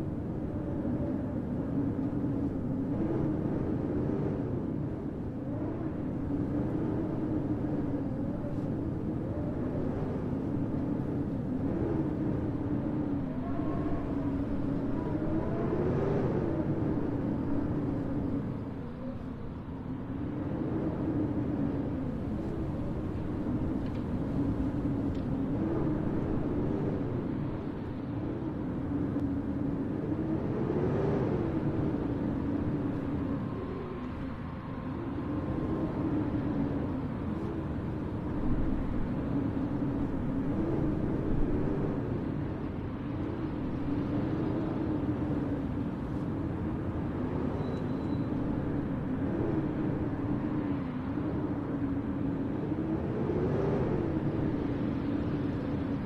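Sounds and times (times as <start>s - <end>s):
howling blizzard wind: 0.0s - 56.0s.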